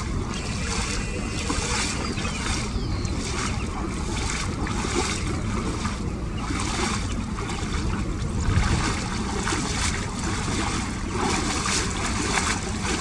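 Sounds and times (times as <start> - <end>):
water sloshing: 0.0 - 13.0
wind rumbling on microphone: 0.0 - 13.0.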